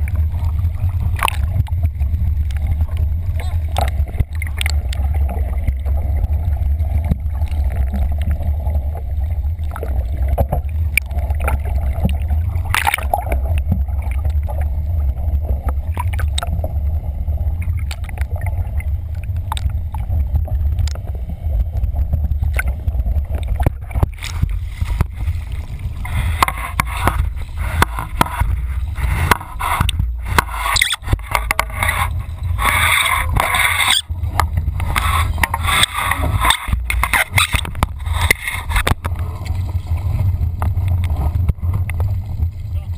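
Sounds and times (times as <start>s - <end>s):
choppy water splashing: 0.0s - 42.9s
muffled underwater gurgling: 0.0s - 42.9s.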